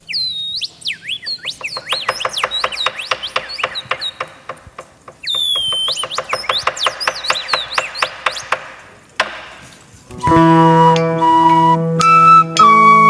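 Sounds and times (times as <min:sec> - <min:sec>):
long falling bird whistle: 0:00.0 - 0:09.0, 0:10.2 - 0:13.0
birds chirping and whistling: 0:00.0 - 0:13.0.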